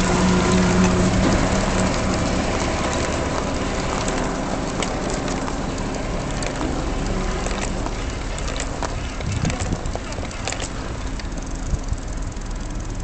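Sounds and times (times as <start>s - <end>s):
wheelchair frame rattling: 0.0s - 12.0s
wheelchair rolling over asphalt: 0.0s - 13.0s.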